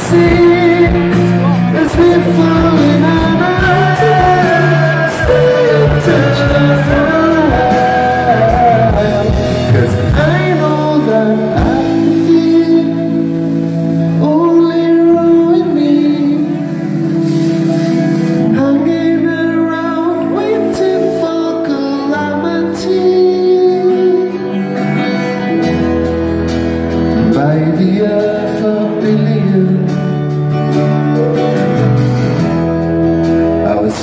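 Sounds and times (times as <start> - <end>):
person singing: 0.0 - 31.8
rock band playing live: 0.0 - 34.0.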